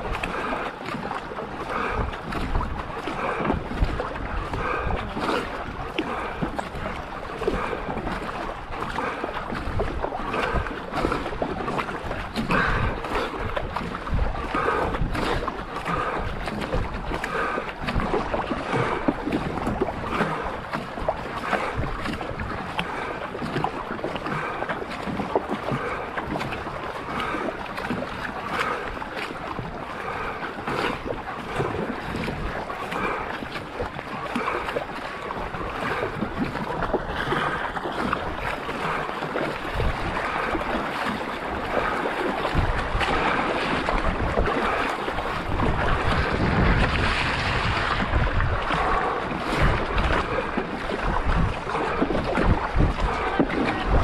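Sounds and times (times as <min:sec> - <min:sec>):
paddle strokes: 0:00.0 - 0:54.0
water rushing and splashing: 0:00.0 - 0:54.0
wind rumbling on microphone: 0:00.0 - 0:54.0.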